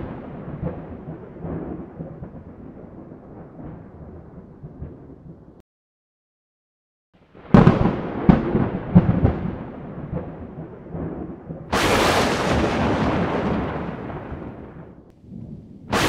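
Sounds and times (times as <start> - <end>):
thunder cracking and rumbling: 0.0 - 5.6, 7.3 - 16.0.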